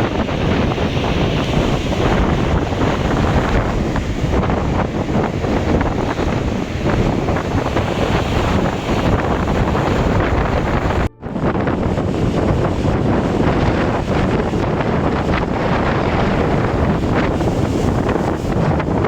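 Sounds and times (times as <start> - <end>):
heavy surf: 0.0 - 19.0
wind buffeting microphone: 0.0 - 19.0.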